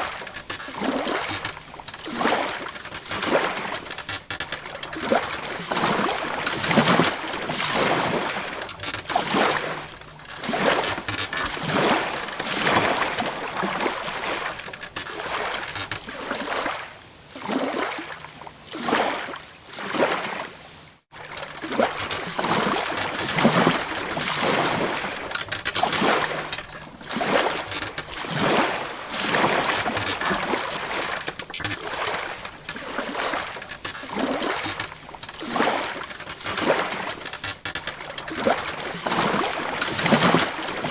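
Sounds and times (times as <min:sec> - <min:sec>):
water slapping against boat hull: 0:00.0 - 0:16.9, 0:21.2 - 0:40.9.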